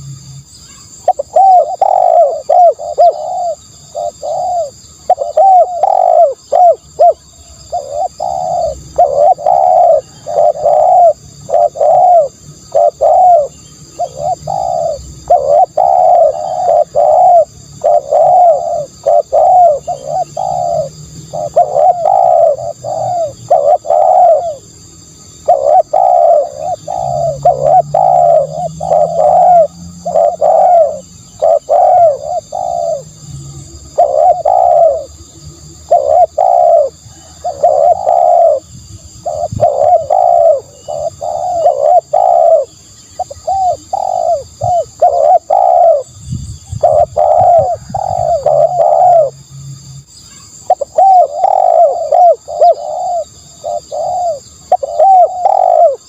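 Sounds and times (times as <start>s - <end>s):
dove cooing: 0.7s - 49.4s, 50.3s - 56.0s.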